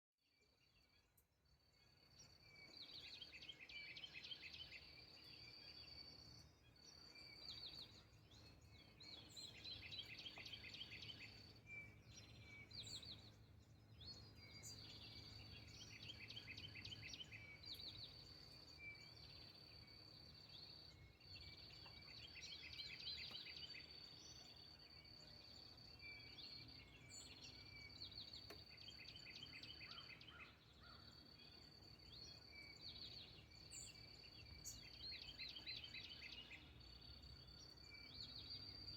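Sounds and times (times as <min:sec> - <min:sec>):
birds singing trilled phrases: 0:02.4 - 0:37.2.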